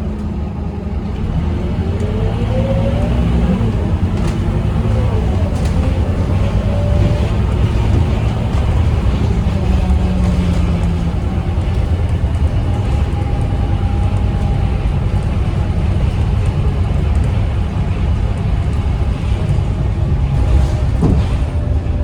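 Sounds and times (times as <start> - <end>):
diesel bus engine rumbling: 0.0 - 22.0.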